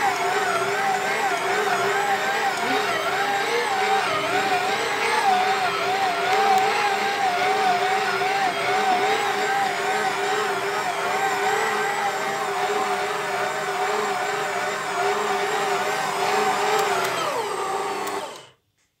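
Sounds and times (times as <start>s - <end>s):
stand mixer motor whine: 0.0s - 18.6s.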